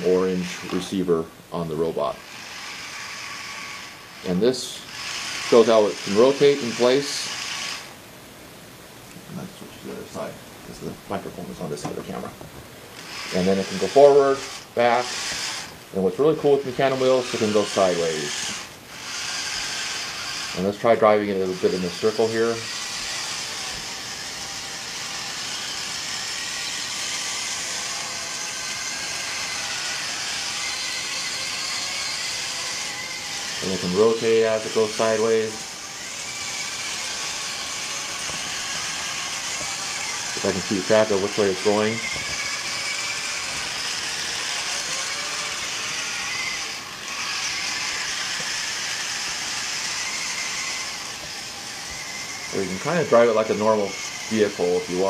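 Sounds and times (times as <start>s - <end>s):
robot gear motors whining: 2.1s - 7.9s, 13.0s - 55.0s.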